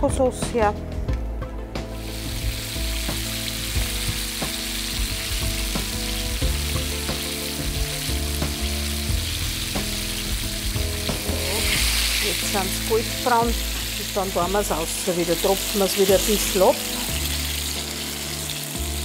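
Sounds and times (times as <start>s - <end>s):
deep-frying sizzle: 1.8s - 19.0s.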